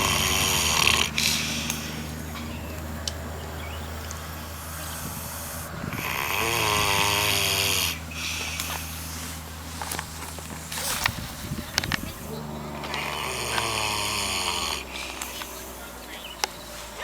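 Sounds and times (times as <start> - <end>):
pig snoring: 0.0 - 3.0, 4.5 - 9.5, 10.6 - 17.0
steady low hum: 0.0 - 17.0.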